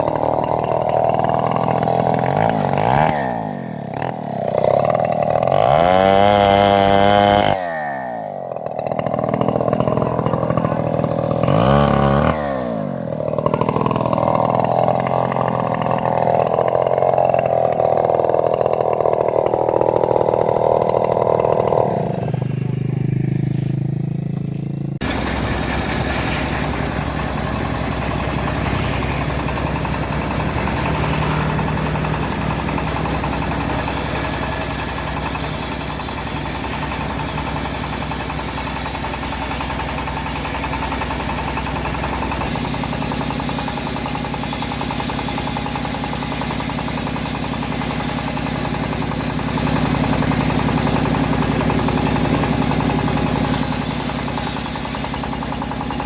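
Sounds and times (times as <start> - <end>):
saw cutting log: 0.0 - 56.0
sawmill engine revving: 0.0 - 56.0.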